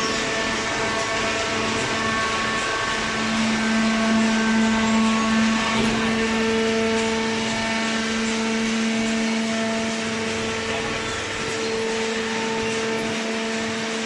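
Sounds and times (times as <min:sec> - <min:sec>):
baler motor humming: 0:00.0 - 0:14.0.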